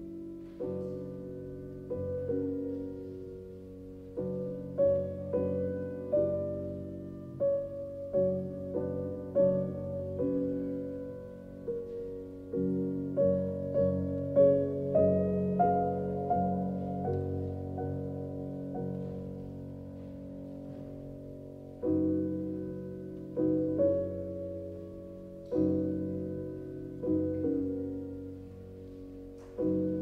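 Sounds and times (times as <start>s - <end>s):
slow quiet piano chords: 0.0s - 30.0s.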